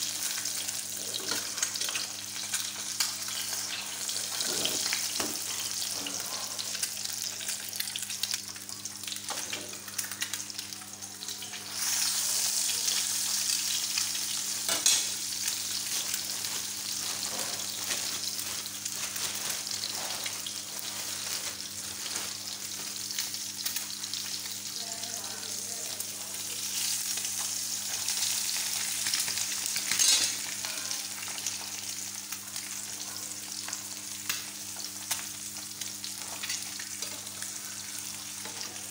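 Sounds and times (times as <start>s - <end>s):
eggs sizzling in a frying pan: 0.0s - 38.9s.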